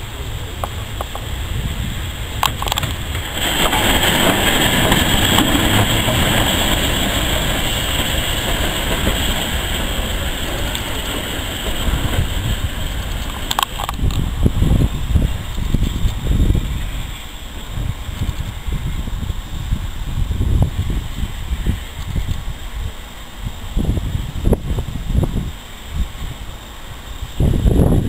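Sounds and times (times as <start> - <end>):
steam locomotive passing: 0.0 - 28.0.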